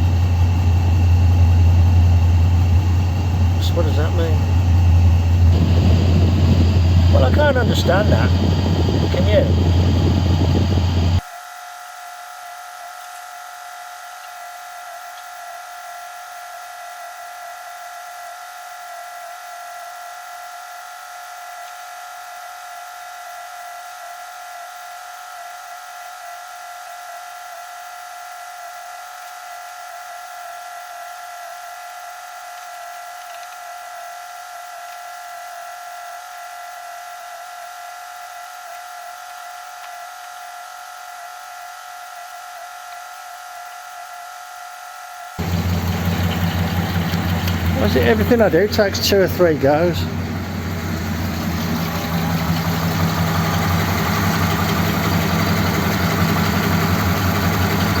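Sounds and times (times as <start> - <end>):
small electric motor whining: 0.0 - 58.0.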